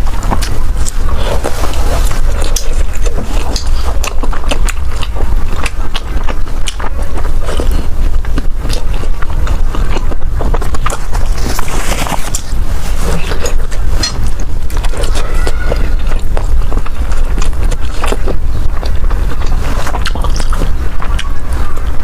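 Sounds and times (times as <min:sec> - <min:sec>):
chewing and mouth clicks: 0:00.0 - 0:22.0.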